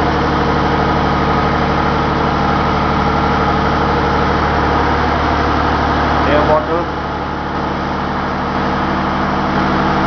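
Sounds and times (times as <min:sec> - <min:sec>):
large engine humming: 0:00.0 - 0:10.0.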